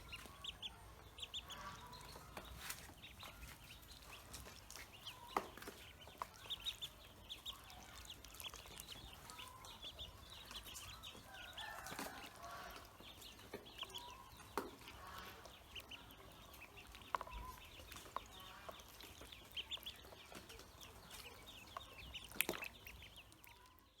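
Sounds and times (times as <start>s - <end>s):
ducklings peeping: 0.0s - 24.0s.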